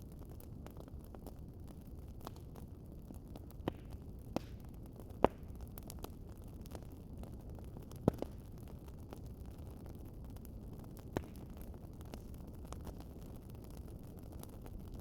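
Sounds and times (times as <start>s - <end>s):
fire popping: 0.0s - 15.0s
wood fire rumbling: 0.0s - 15.0s.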